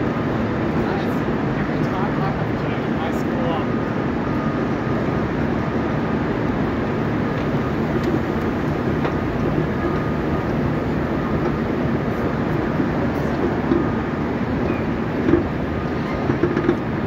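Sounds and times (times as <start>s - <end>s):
faint steady whine: 0.0s - 17.0s
low rumble of trains: 0.0s - 17.0s.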